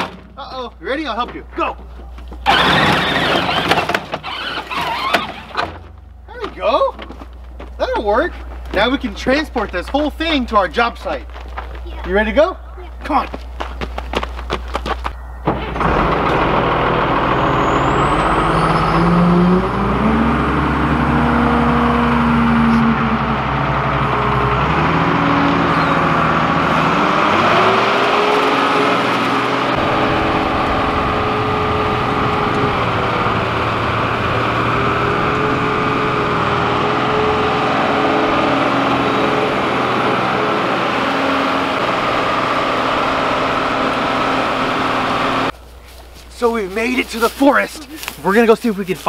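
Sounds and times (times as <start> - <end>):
wheel loader diesel engine: 0.0 - 49.0.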